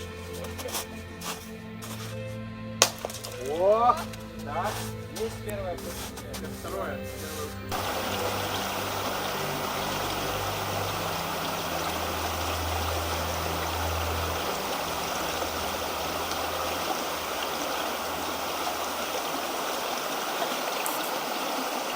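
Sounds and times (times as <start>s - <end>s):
river water rushing: 2.8s - 21.9s.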